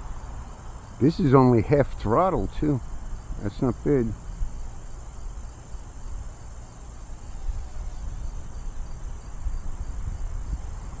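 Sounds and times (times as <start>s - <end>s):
crickets trilling: 0.0s - 11.0s
wind buffeting microphone: 0.0s - 11.0s.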